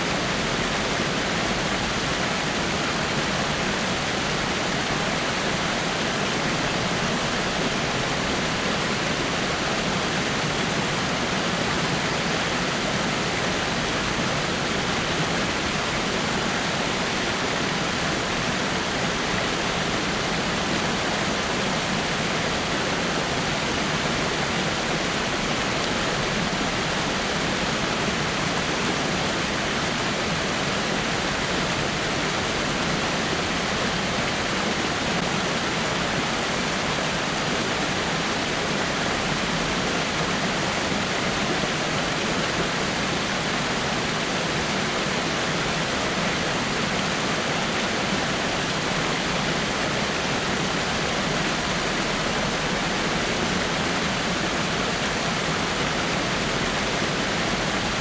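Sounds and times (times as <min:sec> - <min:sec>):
waterfall spilling over rocks: 0:00.0 - 0:58.0.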